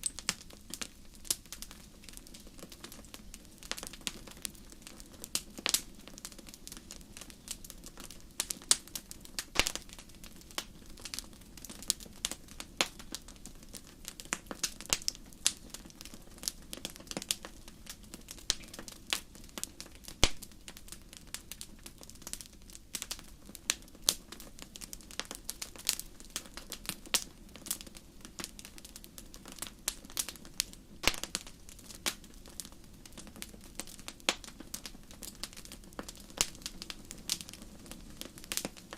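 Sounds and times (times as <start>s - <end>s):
low steady hiss: 0.0s - 38.9s
wood fire crackling and popping: 0.0s - 38.9s.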